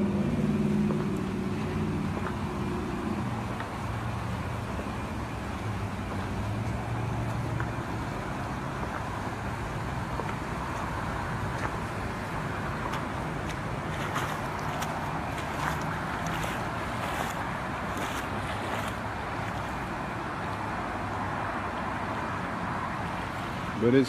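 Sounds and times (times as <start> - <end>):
vehicle engine running at low revs: 0.0 - 21.5.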